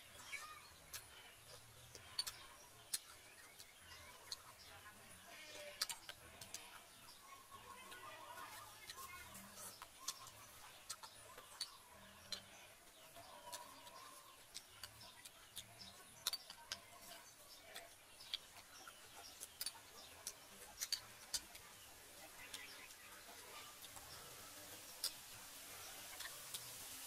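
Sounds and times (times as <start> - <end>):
mouth eating sounds: 0.0 - 26.9.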